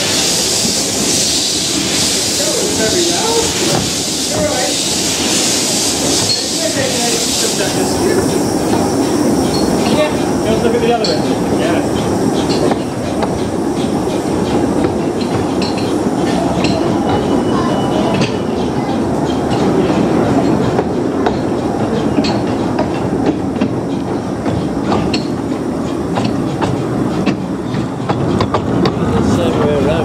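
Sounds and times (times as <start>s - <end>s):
train coaches rumbling and rattling: 0.0s - 30.0s
wheels clicking on track: 0.0s - 30.0s.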